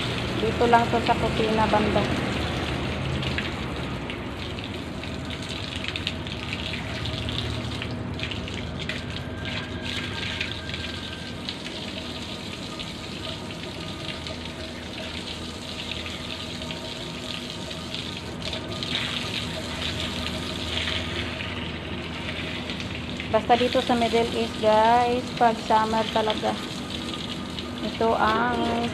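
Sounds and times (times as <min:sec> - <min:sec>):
water running and splashing: 0:00.0 - 0:28.9.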